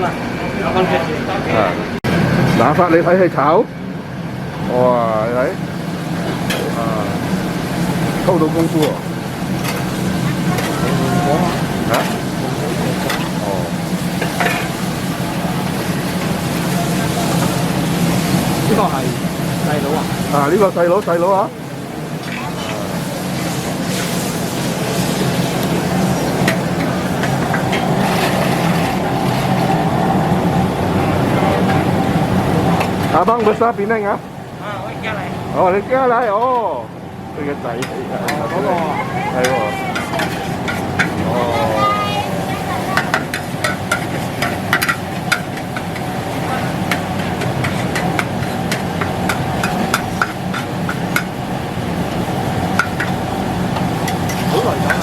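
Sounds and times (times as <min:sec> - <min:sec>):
constant hum: 0:00.0 - 0:55.0
wok stir-frying roar: 0:00.0 - 0:55.0.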